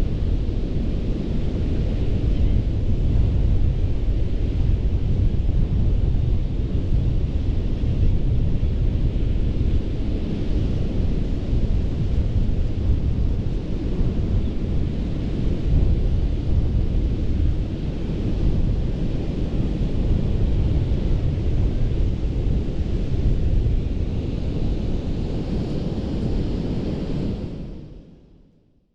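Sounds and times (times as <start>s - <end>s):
wind buffeting microphone: 0.0s - 28.1s.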